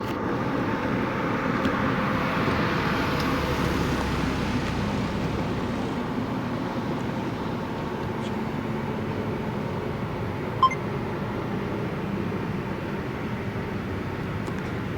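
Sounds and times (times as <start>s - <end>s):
vehicle rumbling along road: 0.0s - 14.9s.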